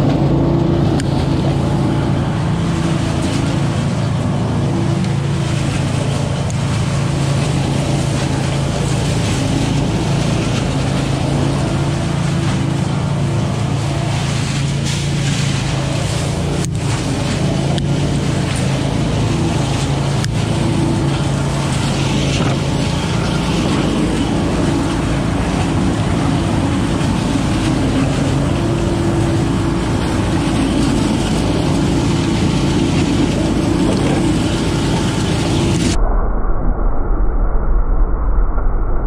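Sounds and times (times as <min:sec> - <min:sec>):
leaf vacuum engine running: 0:00.0 - 0:36.0
leaves rushing through hose: 0:00.0 - 0:36.0.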